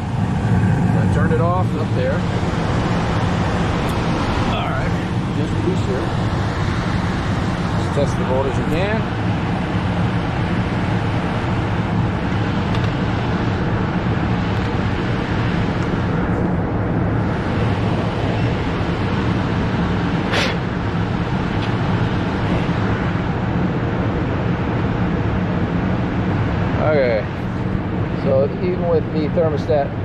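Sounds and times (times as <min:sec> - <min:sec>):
furnace blower running: 0:00.0 - 0:30.0.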